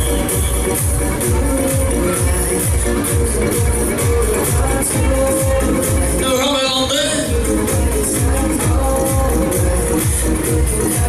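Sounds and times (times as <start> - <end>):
loud electronic dance music: 0.0 - 11.0.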